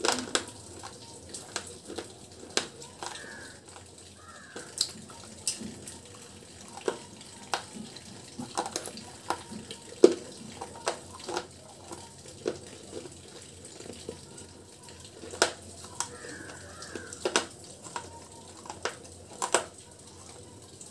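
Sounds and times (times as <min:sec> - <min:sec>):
chewing and wet mouth sounds: 0:00.0 - 0:20.9.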